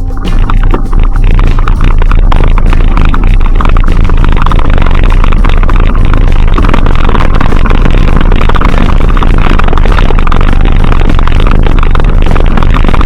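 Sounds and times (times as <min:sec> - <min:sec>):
clatter: 0:00.0 - 0:13.0
overdriven rumbling noise: 0:00.0 - 0:13.0.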